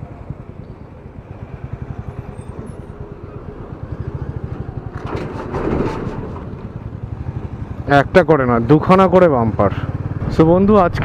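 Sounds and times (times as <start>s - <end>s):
motorcycle engine running: 0.0s - 5.6s, 6.3s - 11.0s.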